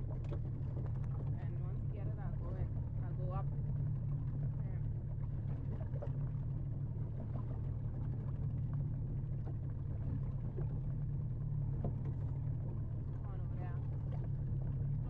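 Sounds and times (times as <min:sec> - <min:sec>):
outboard motor droning: 0:00.0 - 0:15.0.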